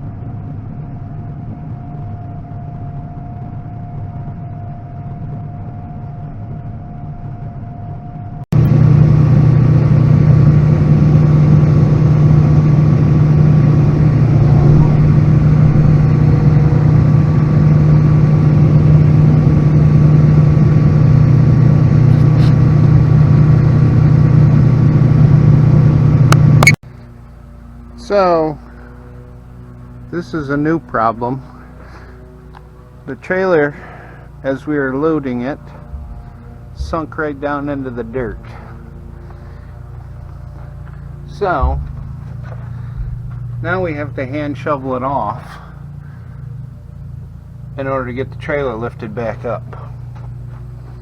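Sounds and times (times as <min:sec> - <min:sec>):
thin constant whine: 0:00.0 - 0:51.0
combine harvester running: 0:08.5 - 0:51.0.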